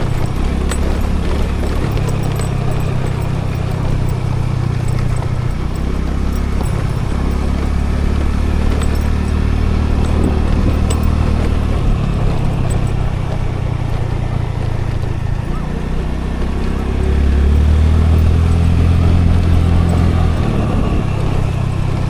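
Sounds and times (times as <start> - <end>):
road and wind noise: 0.0 - 22.0
scooter engine running: 0.0 - 22.0.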